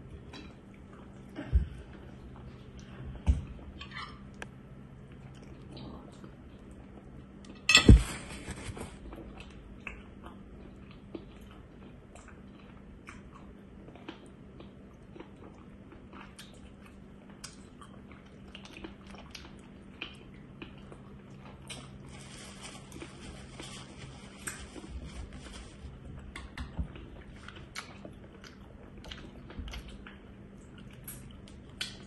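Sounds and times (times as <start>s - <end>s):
person chewing food: 0.0s - 7.4s, 8.3s - 22.3s, 22.9s - 32.0s.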